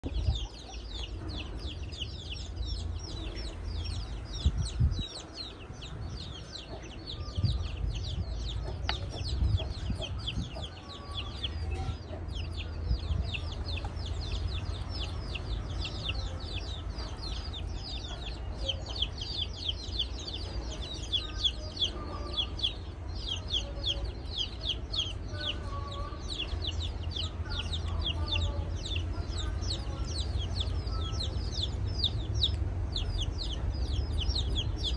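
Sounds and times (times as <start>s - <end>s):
birds chirping: 0.0s - 34.9s
steady low rumble: 0.0s - 34.9s.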